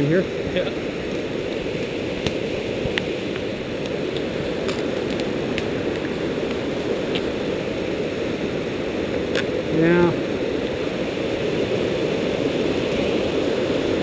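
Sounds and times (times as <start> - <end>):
rushing creek whitewater: 0.0 - 14.0.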